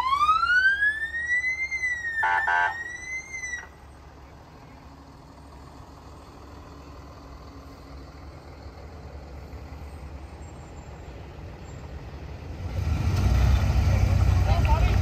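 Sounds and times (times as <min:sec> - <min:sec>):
fire truck engine rumble: 0:00.0 - 0:15.0.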